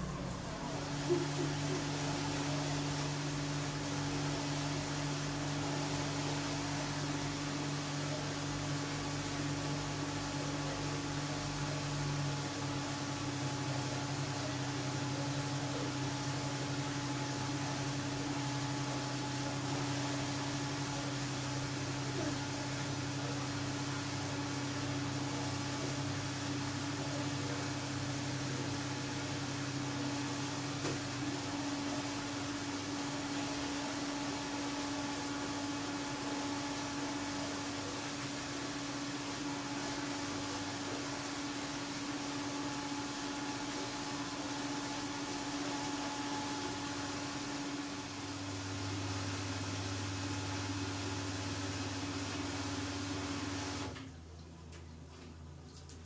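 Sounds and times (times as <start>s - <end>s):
motor and pump drone: 0.0s - 54.1s.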